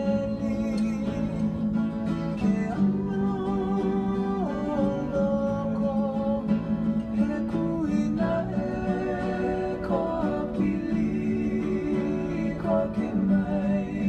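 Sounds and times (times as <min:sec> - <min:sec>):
slow acoustic guitar melody: 0:00.0 - 0:14.0.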